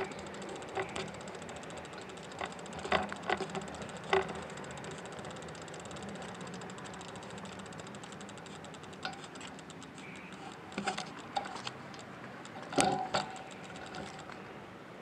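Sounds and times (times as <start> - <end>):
bicycle freewheel ticking: 0.0 - 14.4.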